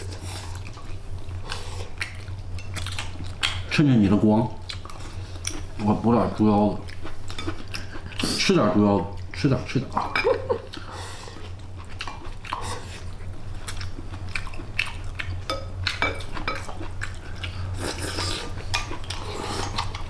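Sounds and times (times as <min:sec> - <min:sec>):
person chewing food: 0:00.0 - 0:03.7, 0:04.6 - 0:05.8, 0:06.8 - 0:08.5, 0:09.1 - 0:20.0.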